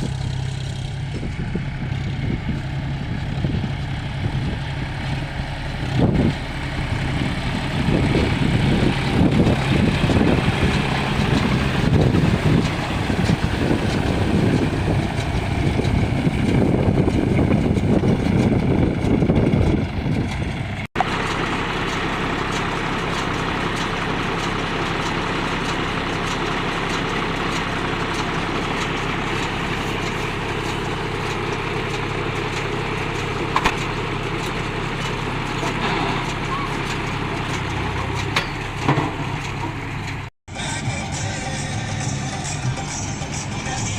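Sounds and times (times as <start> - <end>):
diesel tractor engine running: 0.0 - 43.9.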